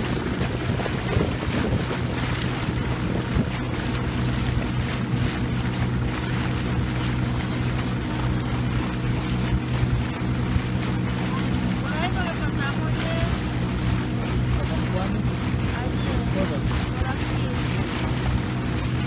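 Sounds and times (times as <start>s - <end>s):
boat motor humming: 0.0s - 19.0s
water rushing past hull: 0.0s - 19.0s
wind buffeting microphone: 0.0s - 19.0s.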